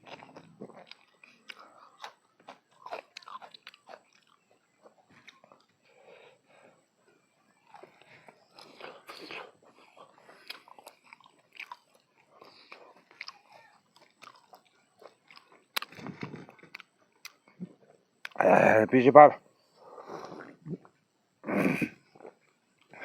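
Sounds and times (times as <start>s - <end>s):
person chewing crunchy food: 0.0s - 18.6s, 19.6s - 23.0s.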